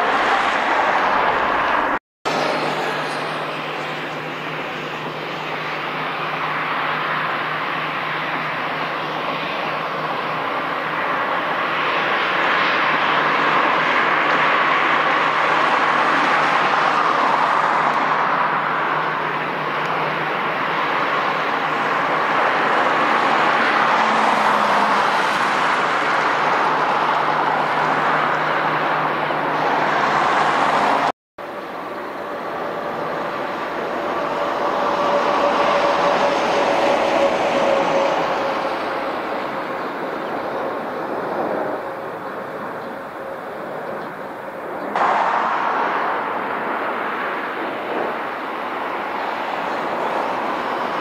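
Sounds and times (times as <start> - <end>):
jet airliner engines whining: 0.0 - 51.0.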